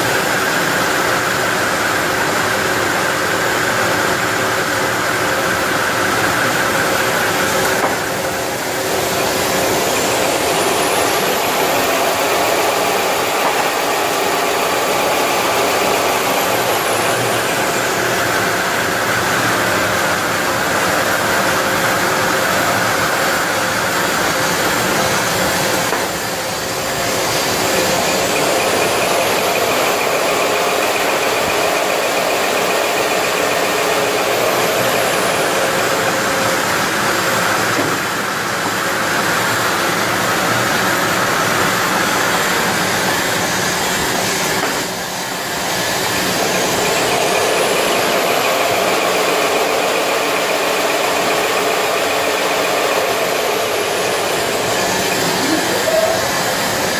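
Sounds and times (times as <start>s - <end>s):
machine drone: 0.0s - 56.9s.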